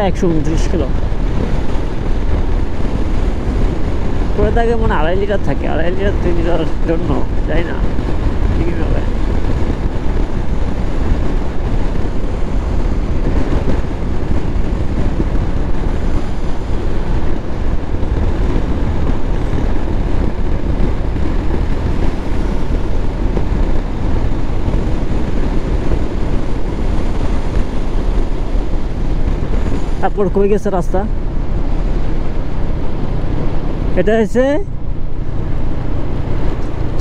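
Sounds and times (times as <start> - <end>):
road noise: 0.0 - 37.0
wind rushing over microphone: 0.0 - 37.0.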